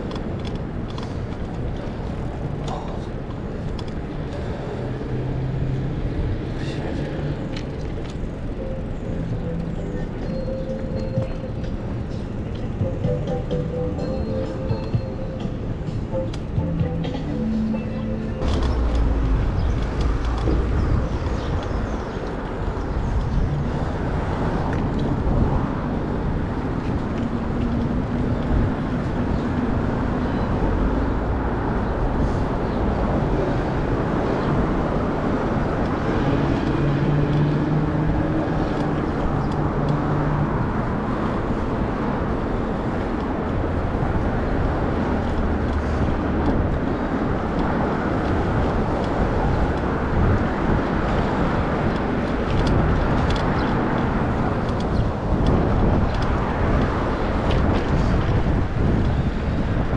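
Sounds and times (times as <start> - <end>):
road traffic rushing: 0.0 - 59.9
vehicle engine hum: 0.0 - 59.9.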